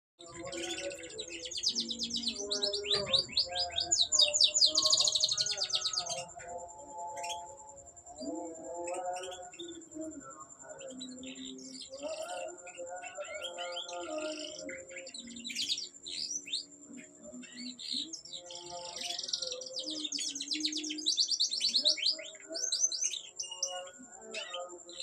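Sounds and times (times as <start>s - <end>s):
canary singing trills: 0.2s - 25.0s.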